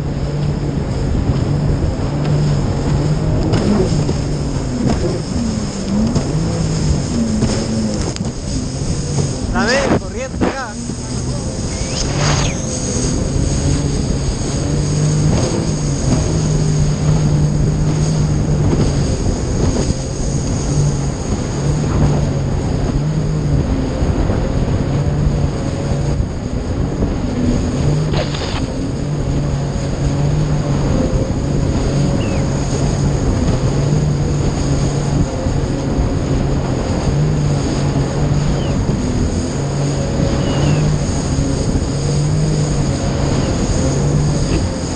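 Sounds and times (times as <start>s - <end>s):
jet ski engine: 0.0s - 44.9s
wind and water rushing: 0.0s - 44.9s.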